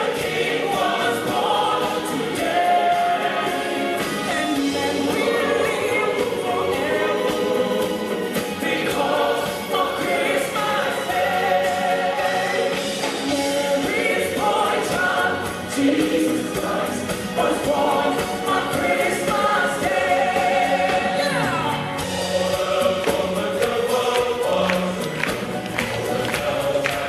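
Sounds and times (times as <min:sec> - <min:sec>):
choir singing long notes: 0:00.0 - 0:25.3.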